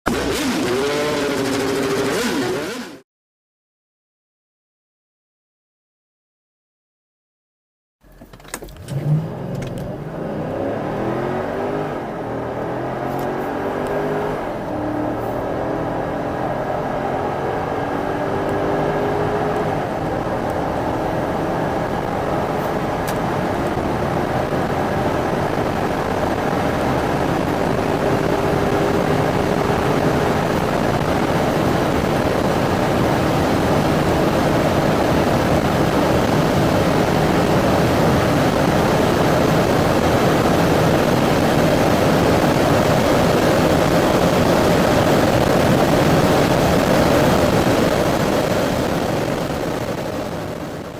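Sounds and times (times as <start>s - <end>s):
car engine accelerating: 0.1s - 3.0s, 8.7s - 50.9s
road noise: 0.1s - 3.0s, 8.1s - 50.9s
rushing wind: 10.1s - 50.9s.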